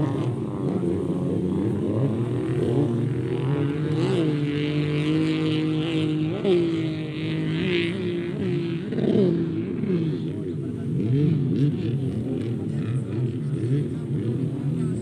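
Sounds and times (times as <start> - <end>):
jet ski engines whining: 0.0 - 15.0.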